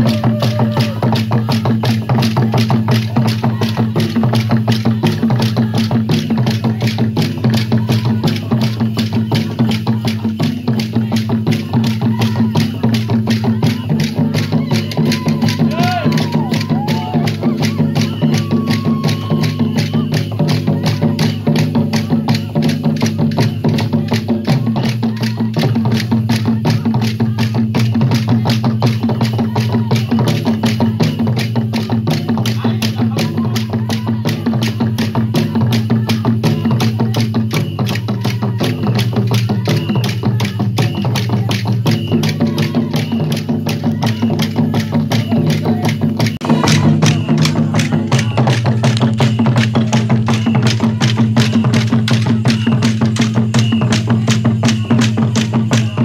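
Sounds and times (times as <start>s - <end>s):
calabashes and drums beaten: 0.0s - 56.0s
voices singing: 0.0s - 56.0s.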